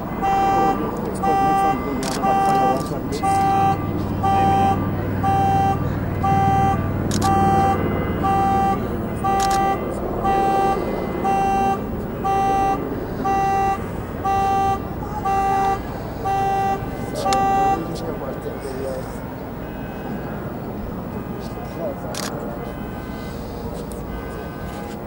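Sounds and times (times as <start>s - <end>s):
car alarm horn honking: 0.0s - 19.0s, 22.6s - 25.0s.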